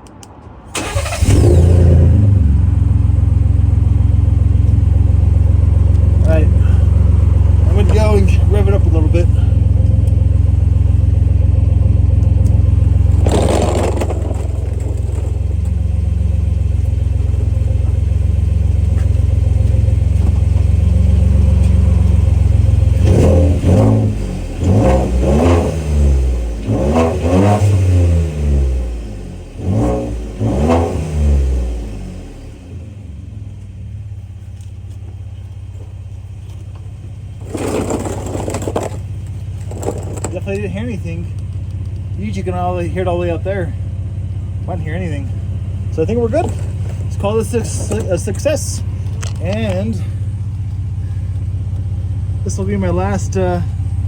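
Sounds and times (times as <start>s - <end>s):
truck engine idling and revving: 0.0s - 54.0s.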